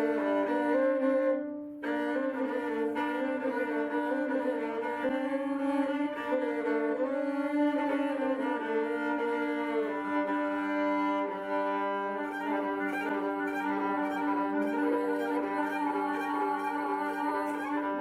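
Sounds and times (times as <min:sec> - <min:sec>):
violin playing drone and melody: 0:00.0 - 0:18.0.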